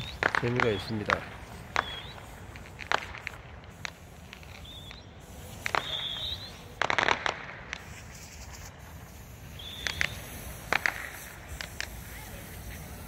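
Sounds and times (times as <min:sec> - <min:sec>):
firecracker bangs: 0:00.0 - 0:12.2
crackling pops: 0:00.0 - 0:12.9
firework whistles: 0:00.0 - 0:13.0.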